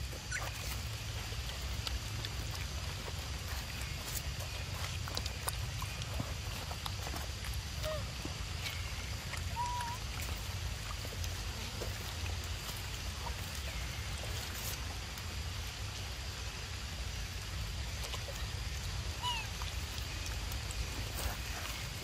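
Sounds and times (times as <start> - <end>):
low rumble and hiss: 0.0 - 22.0.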